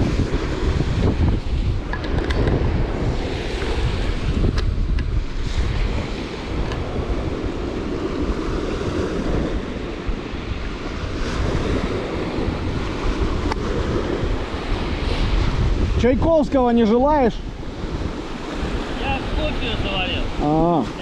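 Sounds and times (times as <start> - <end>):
lake waves washing: 0.0 - 21.0
wind blowing across microphone: 0.0 - 21.0.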